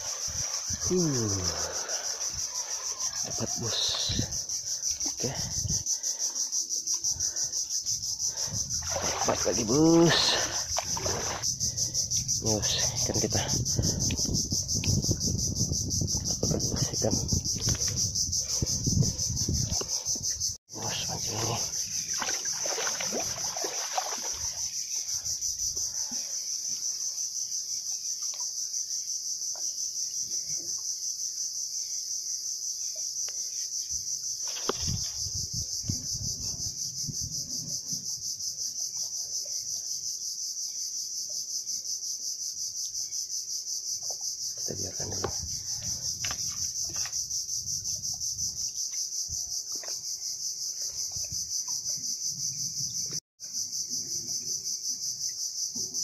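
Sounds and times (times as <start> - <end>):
insect chorus droning: 0.0 - 56.0.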